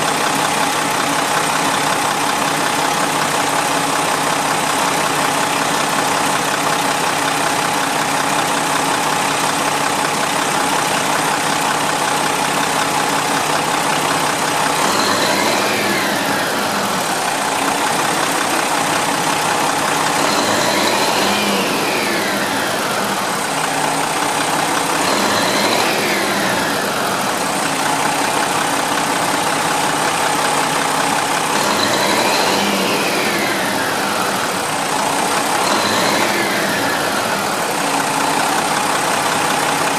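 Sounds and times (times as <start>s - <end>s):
diesel engine idling: 0.0s - 39.9s
diesel engine revving: 0.0s - 39.9s.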